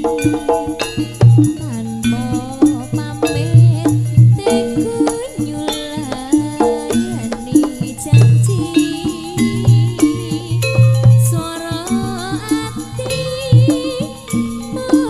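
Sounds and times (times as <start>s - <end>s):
drum strokes: 0.0s - 15.0s
gamelan ensemble playing: 0.0s - 15.0s.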